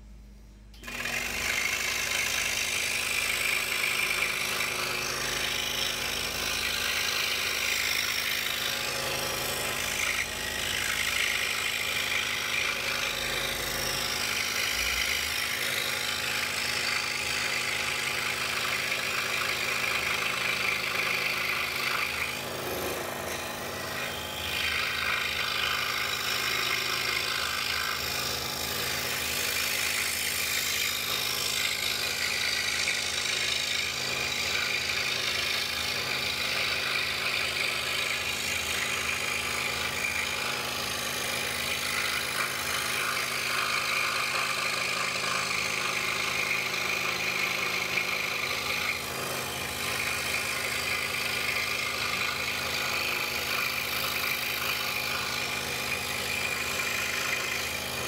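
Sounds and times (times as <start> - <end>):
scroll saw cutting wood: 0.8 - 58.0.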